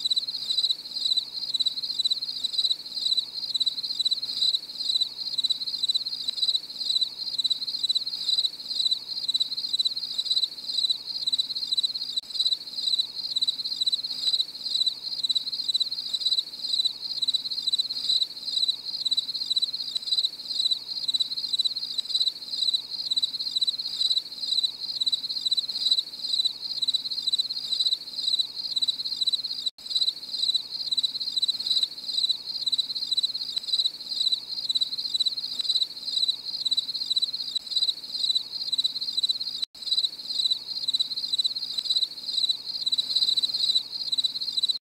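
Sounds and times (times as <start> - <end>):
crickets chirping: 0.0 - 44.8.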